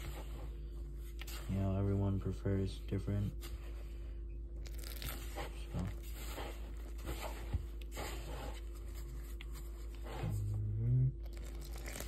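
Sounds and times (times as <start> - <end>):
hand kneading damp dough: 0.0 - 12.0.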